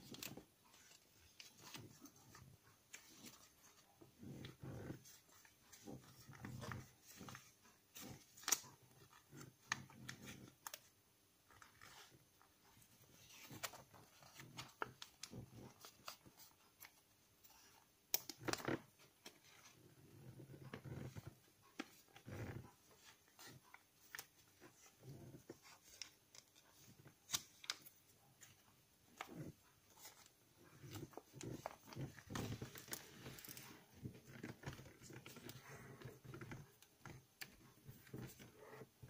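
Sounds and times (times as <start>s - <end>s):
paper being folded and creased: 0.0s - 39.0s.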